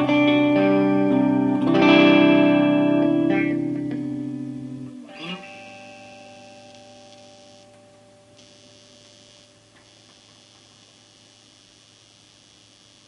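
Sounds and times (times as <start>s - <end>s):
electric guitar chord ringing: 0.0s - 11.4s
amp mains hum: 0.0s - 13.0s.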